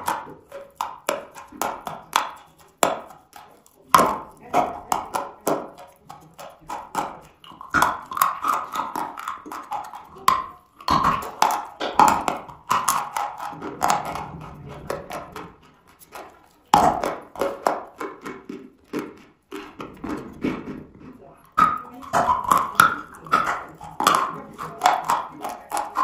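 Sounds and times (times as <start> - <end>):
chalk being chewed: 0.0 - 26.0.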